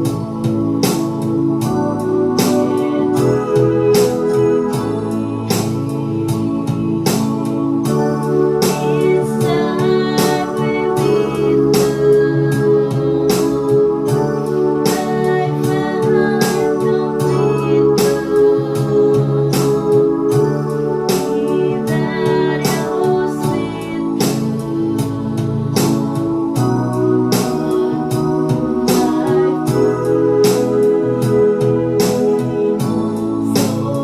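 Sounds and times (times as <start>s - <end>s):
keyboard chords with beat: 0.0s - 34.0s
person singing: 0.0s - 34.0s.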